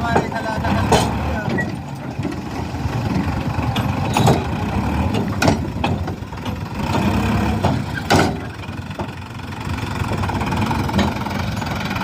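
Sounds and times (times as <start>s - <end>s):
sharp knocks and clanks: 0.0s - 9.2s, 10.1s - 11.8s
tractor diesel engine running: 0.0s - 12.0s.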